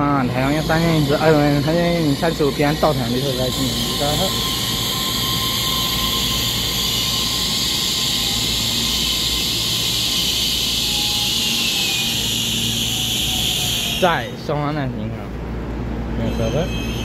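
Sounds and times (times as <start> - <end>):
train passing with hiss and rumble: 0.0 - 17.0.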